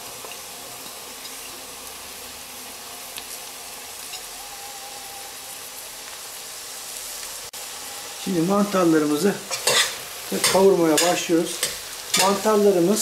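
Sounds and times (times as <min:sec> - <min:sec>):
onions sizzling in a pot: 0:00.0 - 0:13.0.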